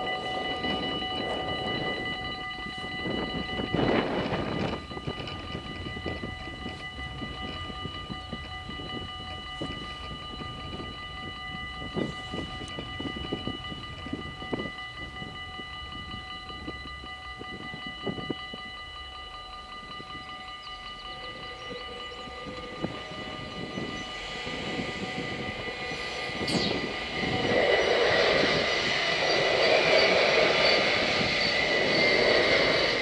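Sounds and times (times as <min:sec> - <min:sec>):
wind rumbling on microphone: 0:00.0 - 0:18.9, 0:21.2 - 0:33.0
level crossing warning bells: 0:00.0 - 0:33.0.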